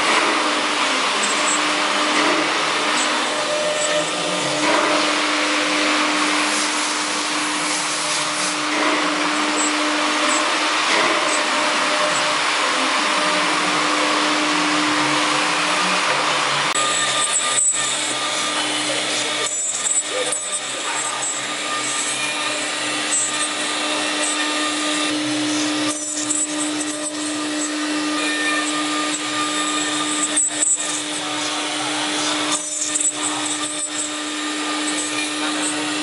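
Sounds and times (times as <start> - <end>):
router spindle whining: 0.0 - 36.0.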